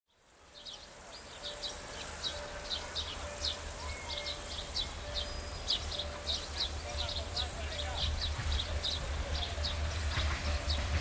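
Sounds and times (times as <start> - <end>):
birds chirping: 0.5 - 11.0.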